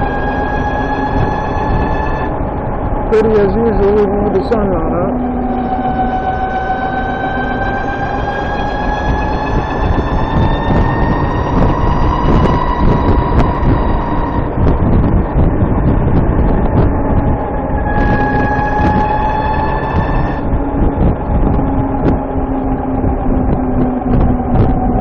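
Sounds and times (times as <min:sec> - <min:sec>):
high-pitched transmission whine: 0:00.0 - 0:25.0
motorcycle engine rumble: 0:00.0 - 0:25.0
wind: 0:00.0 - 0:25.0.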